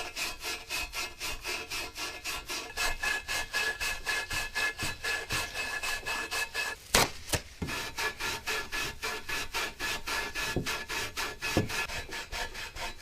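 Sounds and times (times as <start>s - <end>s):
hand tool scraping: 0.0s - 13.0s.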